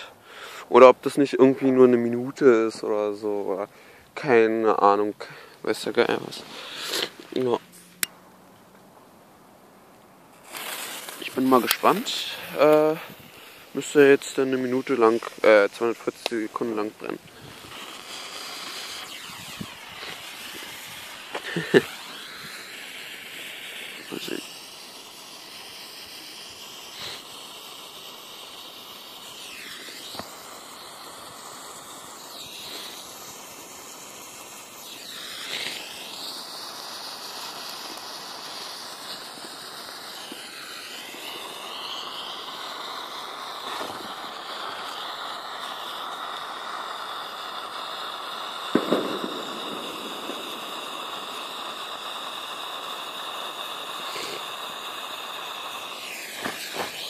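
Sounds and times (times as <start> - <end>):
pyrotechnic stick burning hiss: 0.0 - 57.0.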